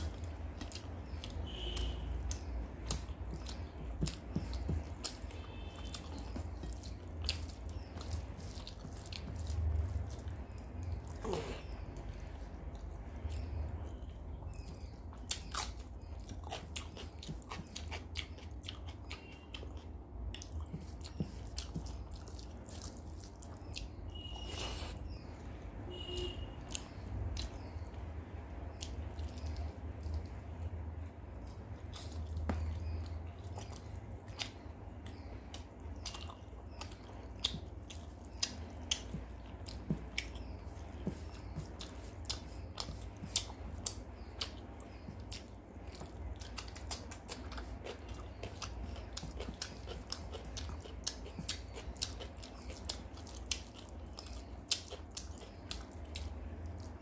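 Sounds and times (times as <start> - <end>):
chewing with wet mouth clicks: 0.0 - 25.2, 25.9 - 57.0.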